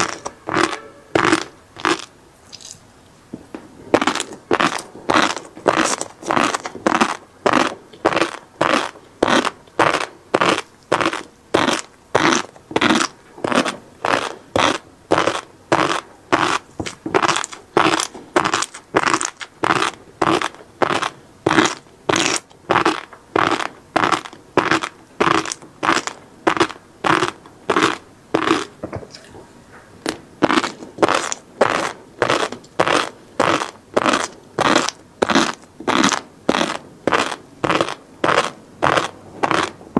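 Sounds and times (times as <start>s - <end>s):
chewing crunchy fish roe: 0.0s - 2.9s, 3.9s - 39.8s.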